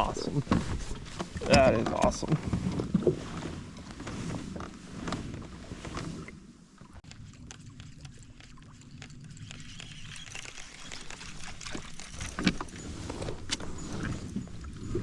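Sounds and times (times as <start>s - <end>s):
water sounds: 0.0s - 15.0s.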